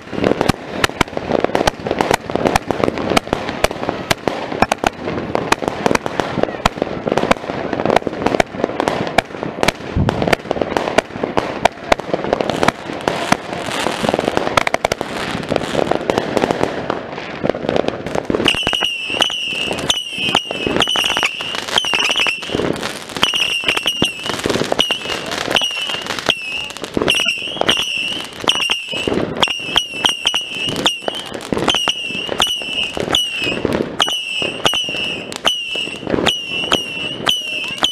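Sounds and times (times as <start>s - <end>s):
fireworks crackling and banging: 0.0s - 37.9s.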